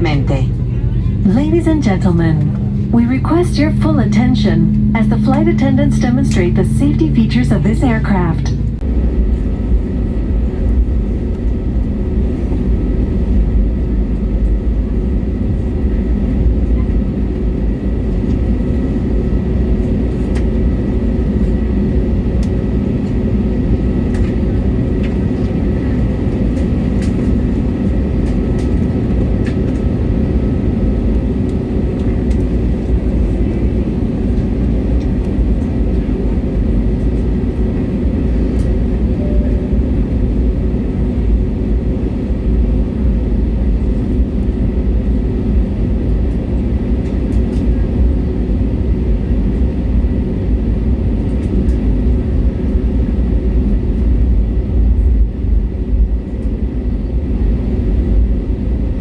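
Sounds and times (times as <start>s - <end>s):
jet engines idling: 0.0s - 54.5s.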